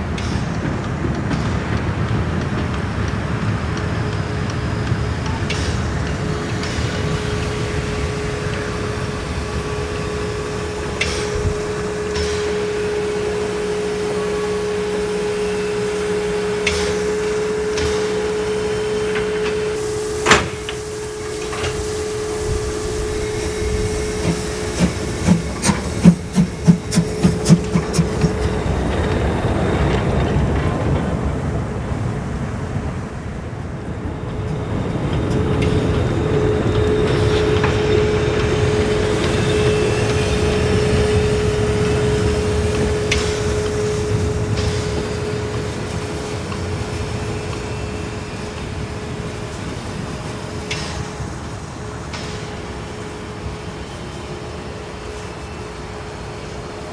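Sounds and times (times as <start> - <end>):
steam exhaust chuffs: 0.0 - 56.9
steam locomotive hum: 0.0 - 56.9
train rumble: 0.0 - 56.9.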